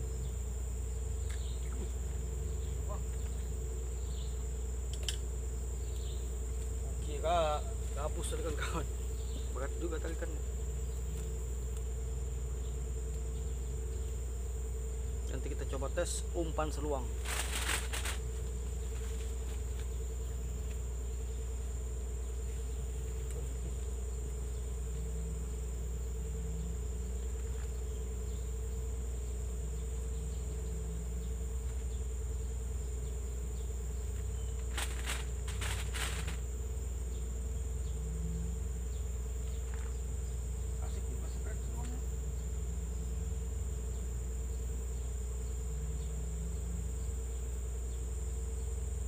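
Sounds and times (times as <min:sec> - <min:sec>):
insect high-pitched whine: 0:00.0 - 0:49.0
insect low buzz: 0:00.0 - 0:49.0.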